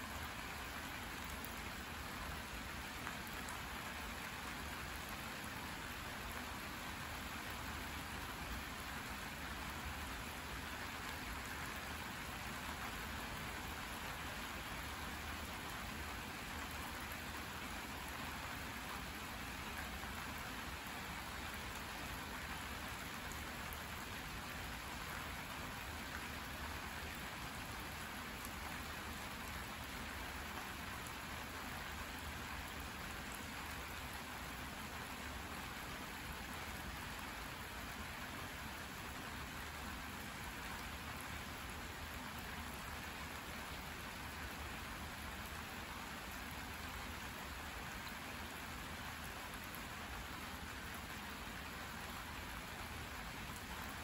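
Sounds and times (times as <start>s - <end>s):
rain falling on plants: 0.0s - 54.0s.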